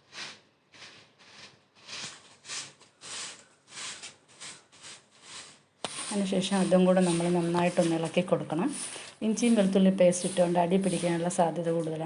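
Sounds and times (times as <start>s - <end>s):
spatula scraping pan: 0.0s - 12.0s.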